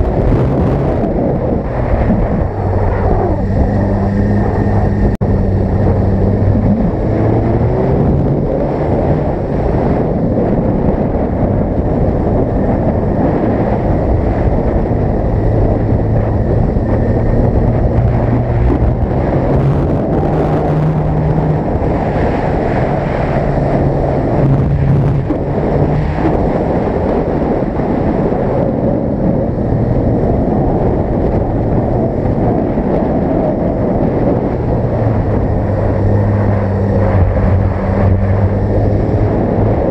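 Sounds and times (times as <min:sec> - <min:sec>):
motorcycle engine droning: 0:00.0 - 0:39.9
wind rushing over microphone: 0:00.0 - 0:39.9.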